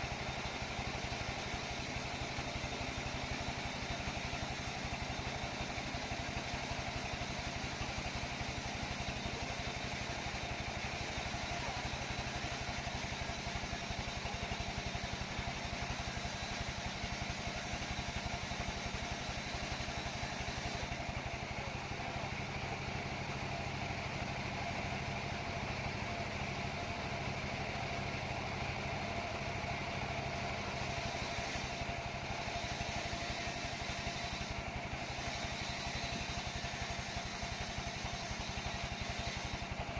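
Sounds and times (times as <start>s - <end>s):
sawmill engine drone: 0.0s - 39.9s.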